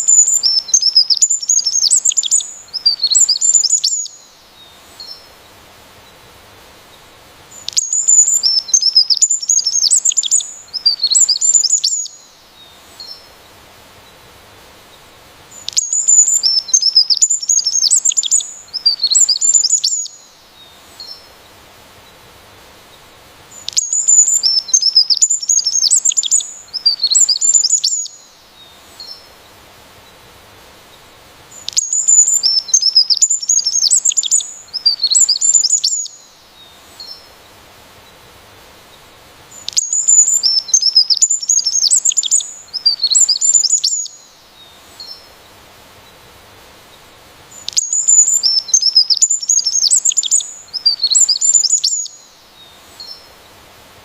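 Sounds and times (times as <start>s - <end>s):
songbird chirping: 0.0s - 53.7s.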